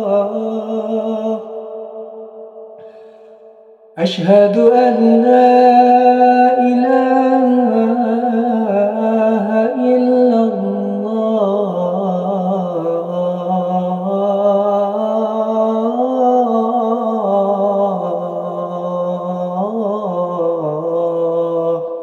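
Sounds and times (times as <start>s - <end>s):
man singing call to prayer: 0.0s - 2.3s, 4.0s - 22.0s.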